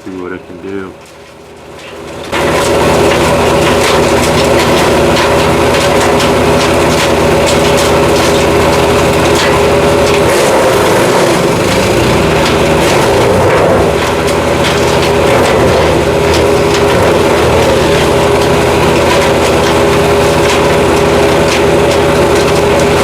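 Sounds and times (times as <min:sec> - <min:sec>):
wood chipper running: 0:00.0 - 0:23.0
wood cracking and snapping: 0:01.0 - 0:23.0.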